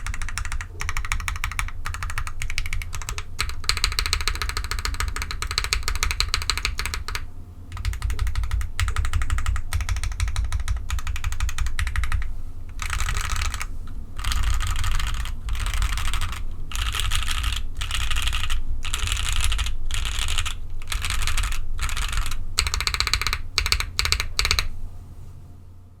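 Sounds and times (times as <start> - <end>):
mechanical keyboard typing: 0.0 - 24.7.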